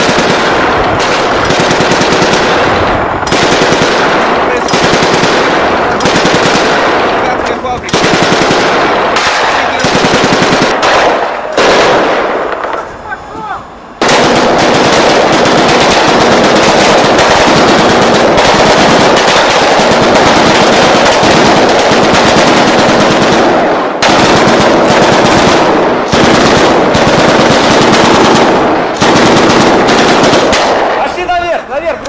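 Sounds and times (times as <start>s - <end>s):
automatic rifle fire: 0.0s - 12.9s, 14.0s - 31.4s.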